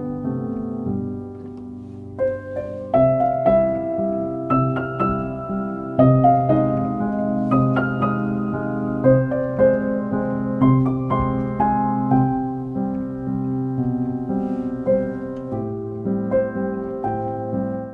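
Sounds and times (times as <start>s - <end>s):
instrumental music: 0.0s - 17.9s.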